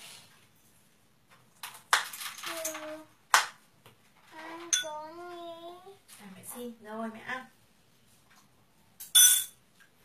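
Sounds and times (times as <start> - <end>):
rustling and handling noise: 0.0 - 6.8, 7.6 - 10.0.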